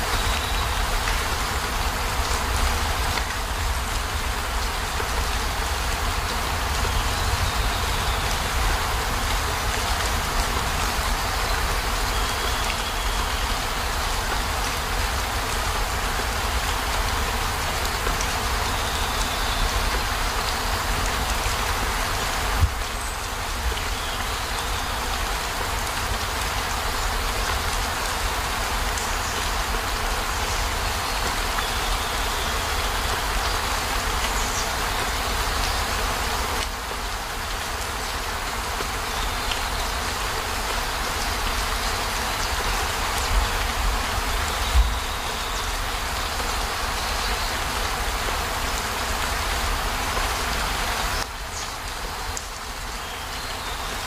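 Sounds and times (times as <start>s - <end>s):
heavy rain on vehicle roof: 0.0s - 54.0s.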